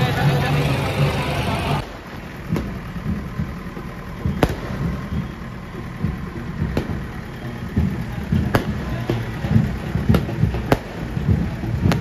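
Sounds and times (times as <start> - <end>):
fireworks bangs: 0.0 - 12.0
low rumble: 0.0 - 12.0
street noise: 0.0 - 12.0.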